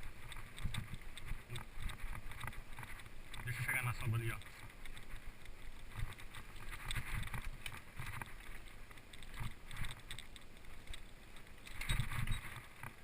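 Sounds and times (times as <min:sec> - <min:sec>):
footsteps on dirt trail: 0:00.0 - 0:13.0.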